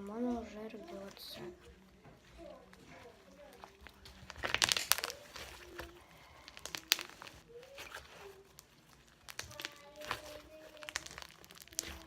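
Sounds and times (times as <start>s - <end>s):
slime clicking and crackling: 0.7s - 12.0s.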